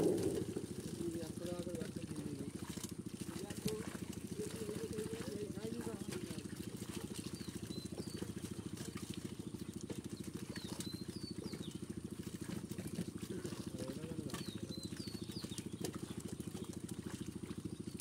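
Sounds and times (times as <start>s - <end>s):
small engine chugging: 0.0s - 18.0s.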